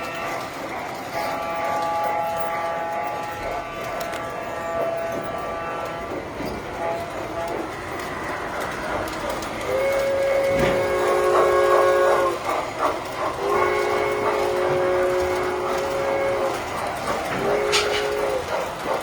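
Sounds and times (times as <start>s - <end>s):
toy train whistle blasts: 0.0s - 8.3s, 9.6s - 19.0s
toy trains running on track: 0.0s - 19.0s.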